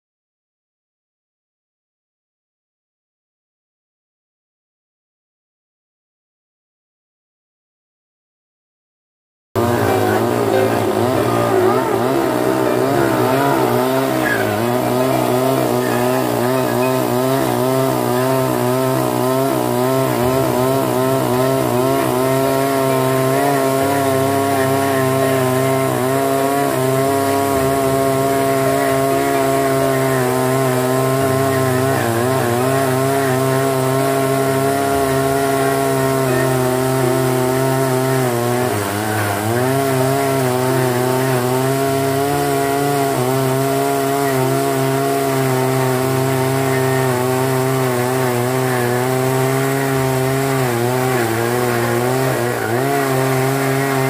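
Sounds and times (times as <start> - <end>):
power tool running: 9.6 - 54.0.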